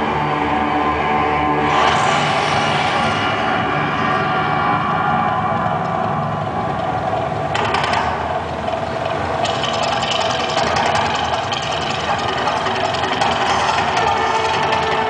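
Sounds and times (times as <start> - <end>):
loud rumble with fast rattling: 0.0 - 15.0.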